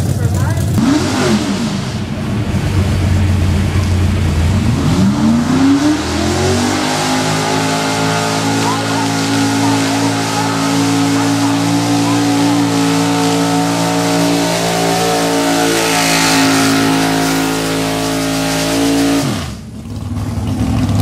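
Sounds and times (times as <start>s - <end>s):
truck engine at full throttle: 0.0s - 21.0s.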